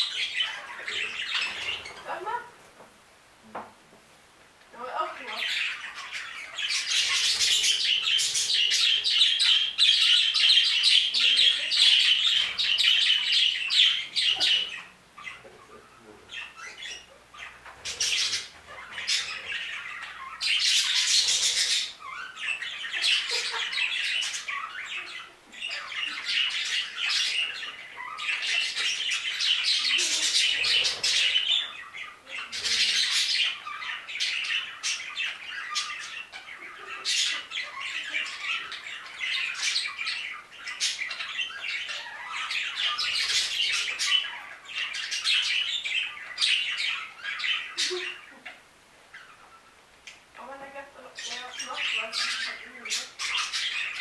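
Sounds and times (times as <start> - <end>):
budgerigars chattering: 0.0 - 2.5, 4.8 - 54.0.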